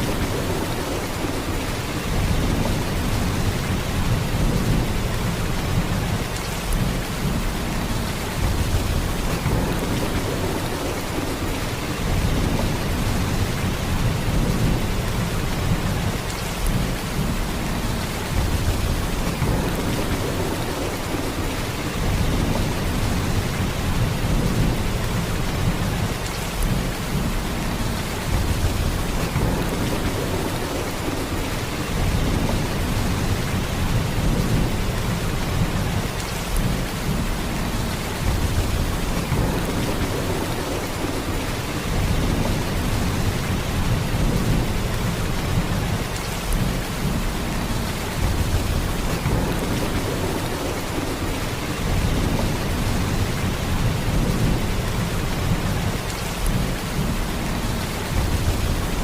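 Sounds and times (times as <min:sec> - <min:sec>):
heavy rain downpour: 0:00.0 - 0:59.0.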